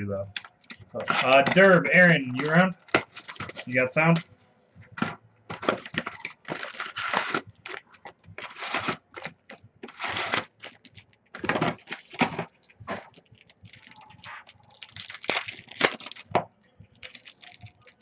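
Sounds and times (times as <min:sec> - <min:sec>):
foil card wrappers crinkling: 0:00.3 - 0:04.2, 0:05.0 - 0:18.0.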